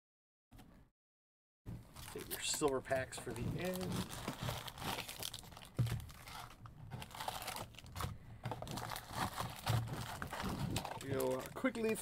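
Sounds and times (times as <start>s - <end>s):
foil packs crinkling and rustling: 1.8s - 12.0s.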